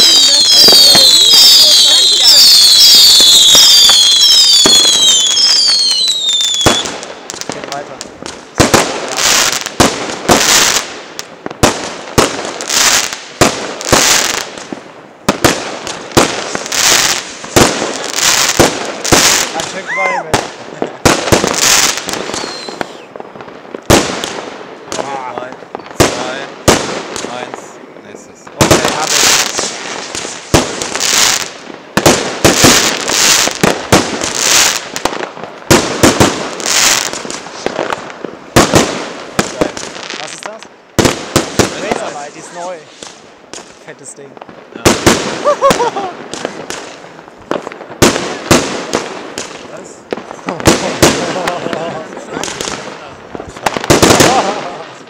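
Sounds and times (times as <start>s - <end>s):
fireworks bangs: 0.0s - 55.0s
fireworks hissing bursts: 0.0s - 55.0s.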